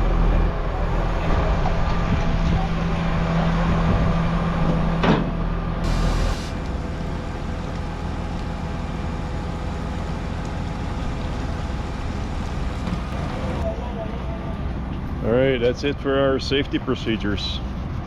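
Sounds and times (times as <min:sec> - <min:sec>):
engine rumbling: 0:00.0 - 0:18.0
steady hum: 0:00.0 - 0:18.0.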